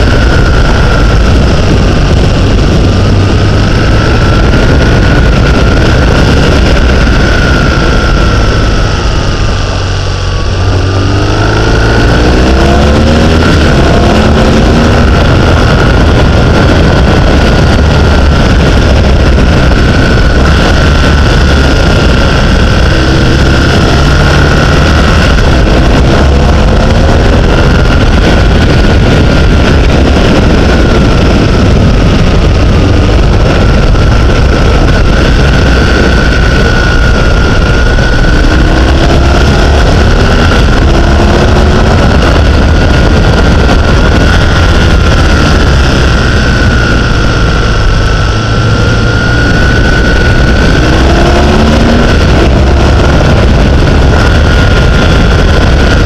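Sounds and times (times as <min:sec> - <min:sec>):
engine revving: 0:00.0 - 0:56.0
wind buffeting camera: 0:00.0 - 0:56.0.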